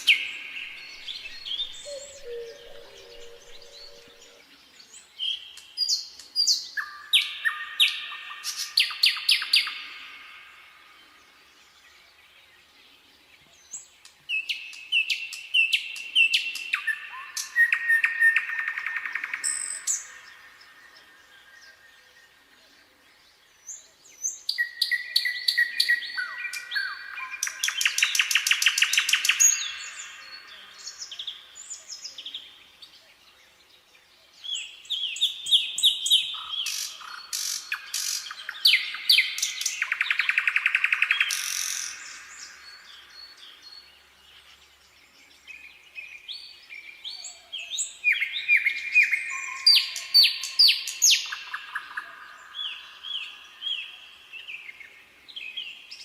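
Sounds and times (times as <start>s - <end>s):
songbird chirps and trills: 0.0s - 56.0s.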